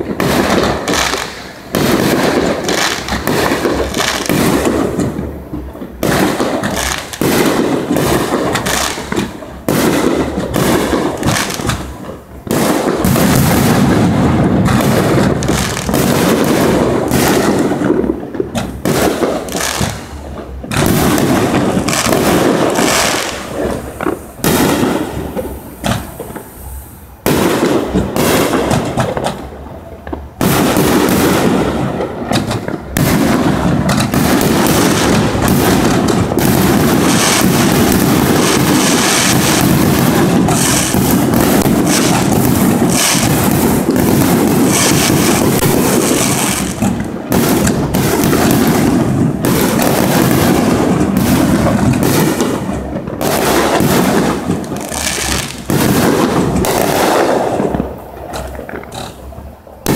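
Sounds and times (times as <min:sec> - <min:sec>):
fireworks bangs and crackle: 0:00.0 - 0:59.9.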